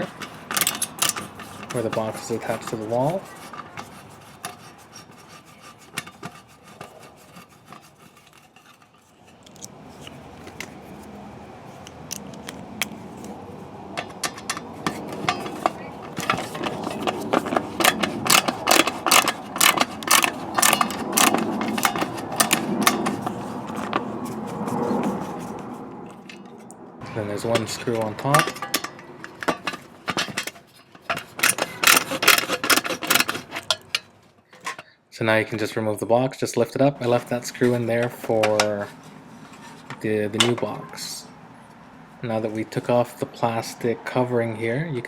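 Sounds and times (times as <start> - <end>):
screwdriver scraping and rubbing: 0.0 - 26.7, 27.3 - 34.9, 37.0 - 40.7.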